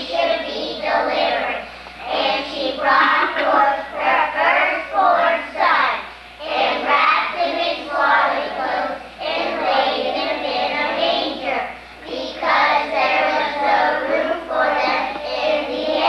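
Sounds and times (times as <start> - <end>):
young children singing: 0.0 - 16.0.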